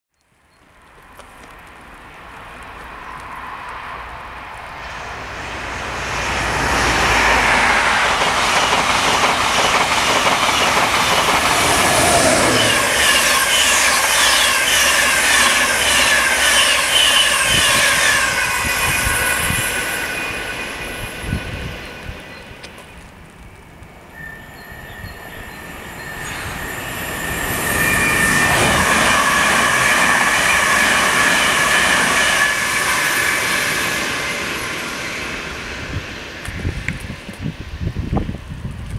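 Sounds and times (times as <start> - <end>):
train wheels rushing on rails: 1.1 - 38.9
approaching train whine: 2.4 - 38.9.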